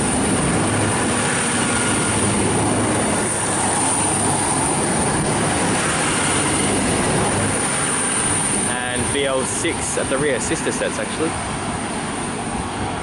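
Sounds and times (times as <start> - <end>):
diesel train passing: 0.0 - 13.0.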